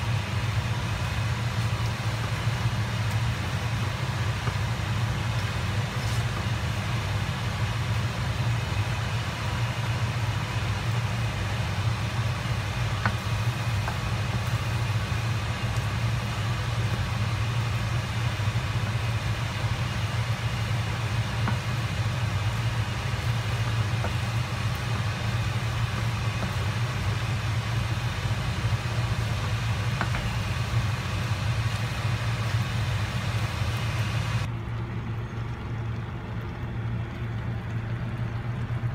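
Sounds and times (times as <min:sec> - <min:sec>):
appliance humming: 0:00.0 - 0:38.9.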